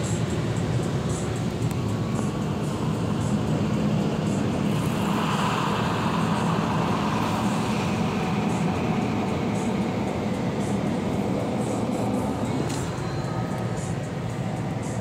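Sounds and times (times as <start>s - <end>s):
car wash rushing rumble: 0.0s - 15.0s.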